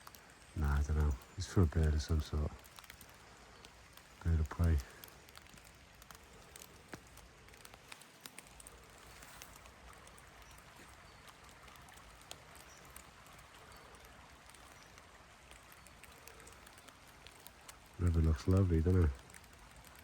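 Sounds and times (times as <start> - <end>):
flowing river water: 0.0 - 20.0
small ticks: 0.0 - 20.0.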